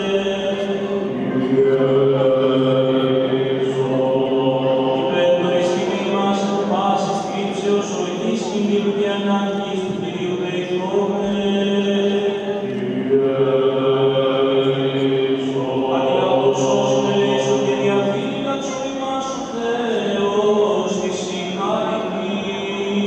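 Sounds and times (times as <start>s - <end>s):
low vocal drone: 0.0s - 23.0s
unaccompanied voices chanting: 0.0s - 23.0s.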